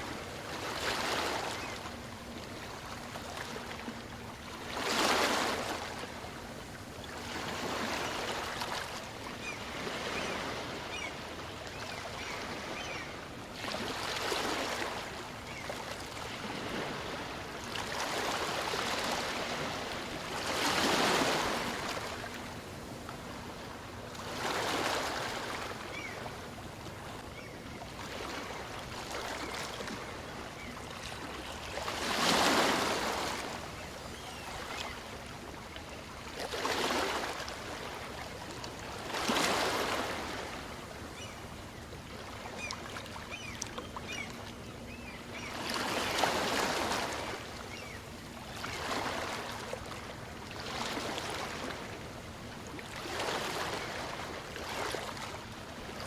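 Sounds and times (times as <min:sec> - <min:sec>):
small waves breaking on shore: 0:00.0 - 0:56.0.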